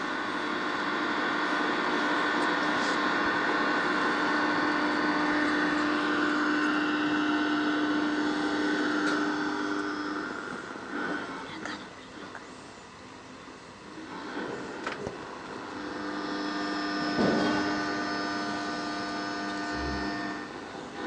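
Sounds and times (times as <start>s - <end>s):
noisy drone with ringing tone: 0.0s - 12.2s, 13.2s - 21.0s.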